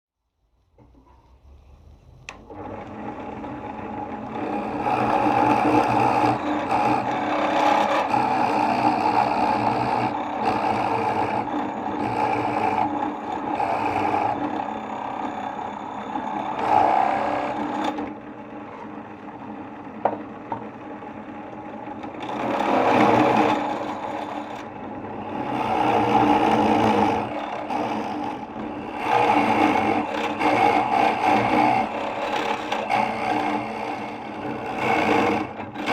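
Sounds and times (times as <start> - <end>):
small motor running: 1.6 - 18.1, 22.2 - 35.9.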